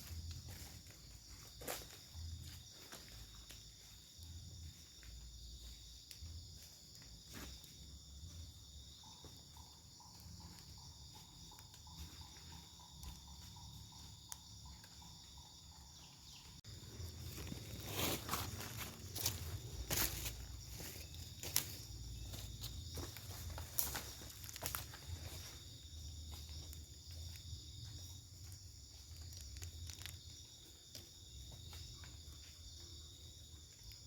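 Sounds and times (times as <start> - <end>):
insects trilling: 0.0 - 34.0
lower pulsing insect trill: 0.0 - 34.0.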